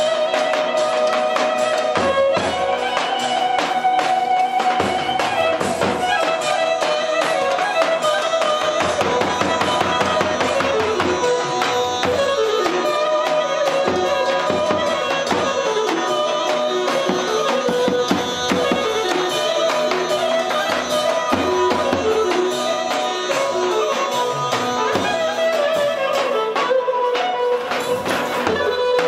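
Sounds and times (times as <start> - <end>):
clarinet playing folk dance tune: 0.0 - 29.0
large drum beat: 1.7 - 29.0.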